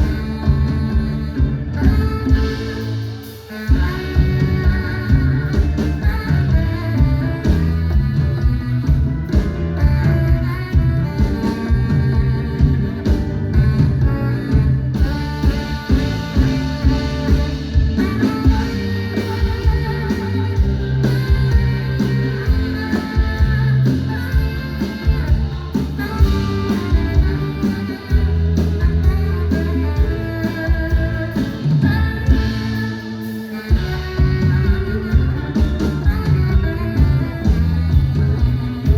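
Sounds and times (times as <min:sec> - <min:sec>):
bass guitar: 0:00.0 - 0:38.9
drum kit steady beat: 0:00.0 - 0:38.9
electric guitar: 0:00.0 - 0:38.9
live band playing: 0:00.0 - 0:38.9.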